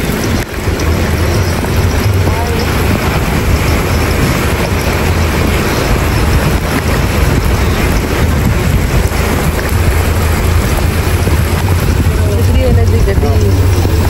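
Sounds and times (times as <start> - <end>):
car engine: 0.0 - 14.0
heavy rain: 0.0 - 14.0
rush of water: 0.0 - 14.0
wind rumbling on microphone: 0.0 - 14.0.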